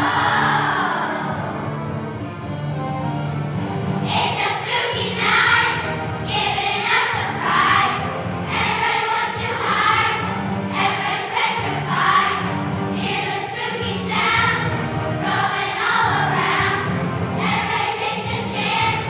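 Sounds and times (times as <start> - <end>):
children's choir singing: 0.0 - 2.2, 4.0 - 19.0
musical accompaniment: 0.0 - 19.0.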